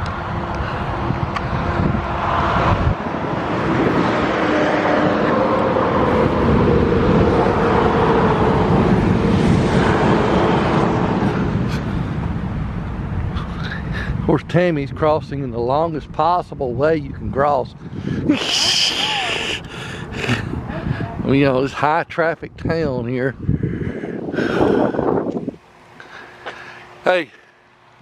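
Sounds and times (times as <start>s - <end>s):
vehicles passing on highway: 0.0s - 28.0s.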